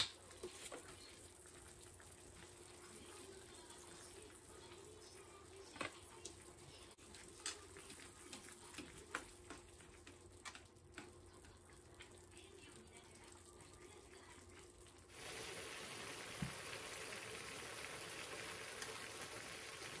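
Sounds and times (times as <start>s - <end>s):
broth boiling with bubbling hiss: 0.1s - 20.0s.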